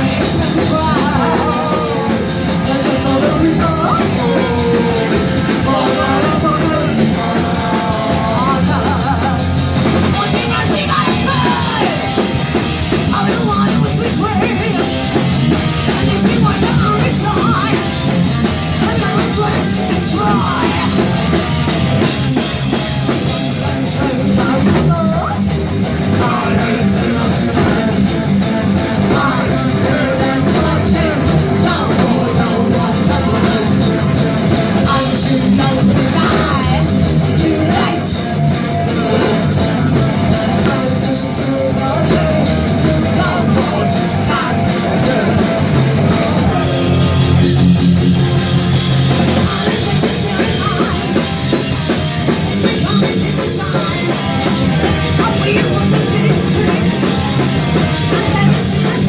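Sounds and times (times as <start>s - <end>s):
person singing or yelling: 0.0s - 18.1s, 18.7s - 22.0s, 23.6s - 51.6s, 52.2s - 59.0s
punk rock band playing: 0.0s - 59.0s.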